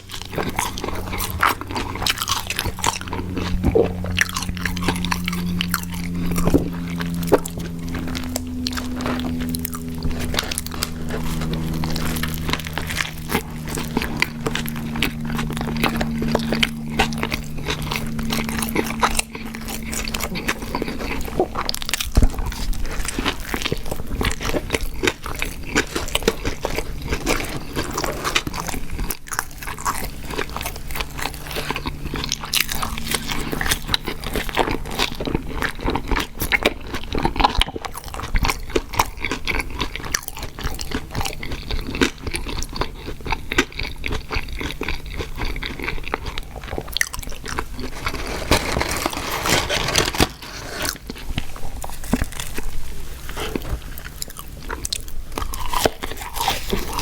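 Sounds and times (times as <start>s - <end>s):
crunchy chewing: 0.0s - 57.0s
faint low hum: 0.0s - 57.0s.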